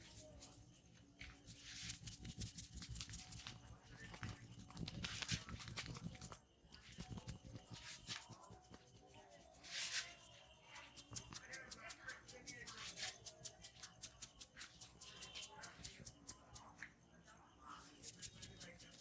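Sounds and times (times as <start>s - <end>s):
hands rubbing and patting hair: 0.0s - 16.9s, 17.8s - 19.0s.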